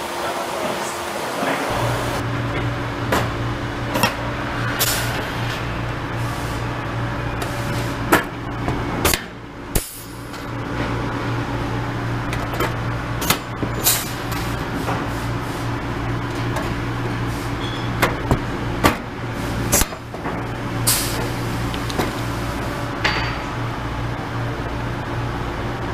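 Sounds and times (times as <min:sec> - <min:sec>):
workshop hum: 0:00.0 - 0:25.9.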